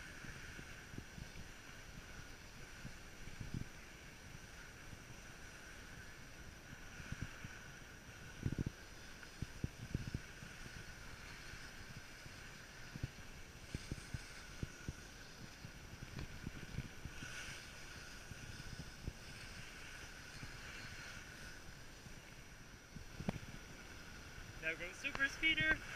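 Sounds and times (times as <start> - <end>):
skis sliding over packed snow: 0.0 - 25.9
wind buffeting microphone: 0.0 - 25.9.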